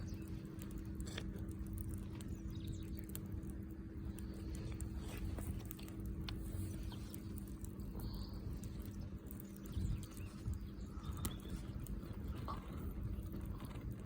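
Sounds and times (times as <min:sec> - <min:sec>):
bonfire rumbling: 0:00.0 - 0:14.0
fire crackling and popping: 0:00.0 - 0:14.0.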